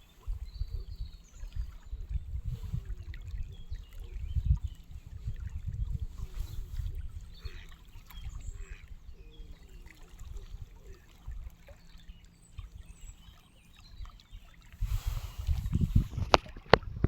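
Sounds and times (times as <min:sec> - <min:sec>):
wind rumbling on microphone: 0:00.0 - 0:13.2, 0:13.8 - 0:17.0
lake water lapping: 0:00.0 - 0:17.0.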